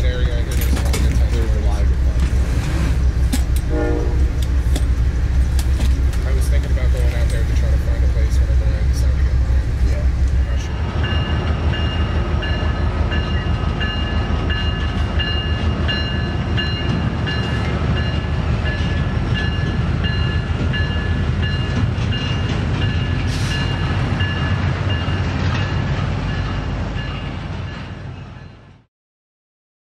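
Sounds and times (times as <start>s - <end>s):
freight train rumbling past: 0.0s - 28.9s.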